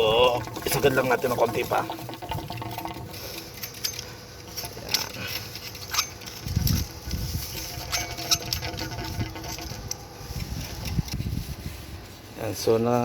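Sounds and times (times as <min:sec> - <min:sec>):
pipe clicking and scraping in fitting: 0:00.0 - 0:11.7.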